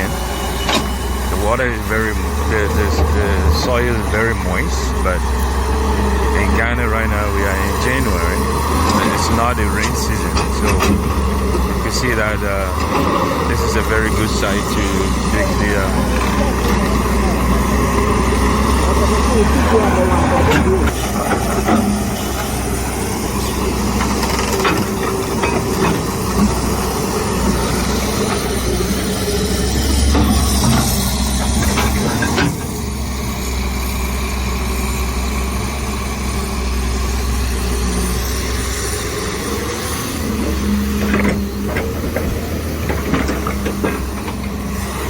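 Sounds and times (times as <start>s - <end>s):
excavator diesel engine running: 0.0s - 45.0s.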